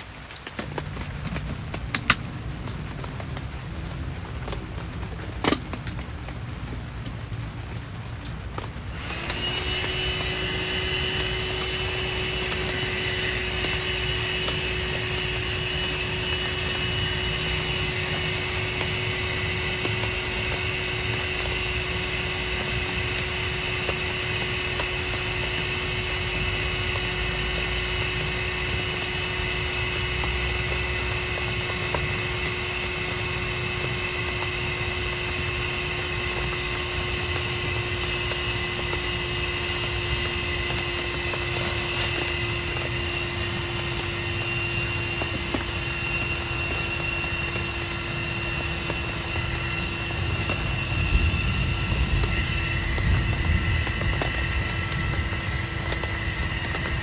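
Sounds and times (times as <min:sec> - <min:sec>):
electric blower running: 0:00.0 - 0:57.0.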